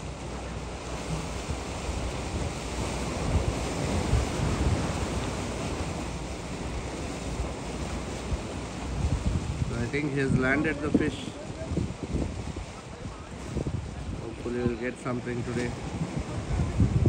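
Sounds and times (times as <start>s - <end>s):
sea surf washing against concrete: 0.0s - 17.0s
wind rumbling on microphone: 0.0s - 17.0s.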